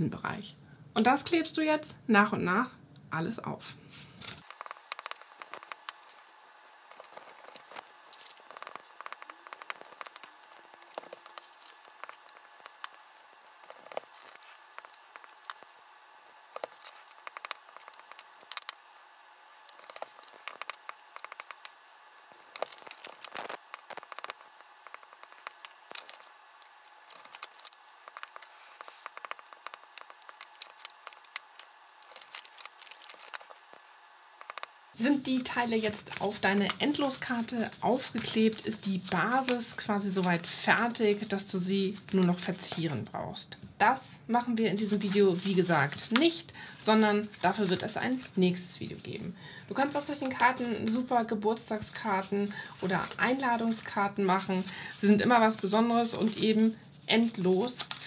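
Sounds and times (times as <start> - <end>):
cardstock rustling: 3.9 - 42.9, 44.7 - 48.6, 51.6 - 58.0.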